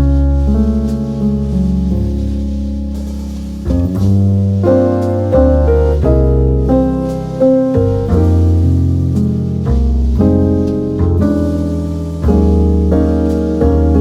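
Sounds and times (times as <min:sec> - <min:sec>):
deep bass line: 0:00.0 - 0:14.0
soft piano chords: 0:00.0 - 0:14.0.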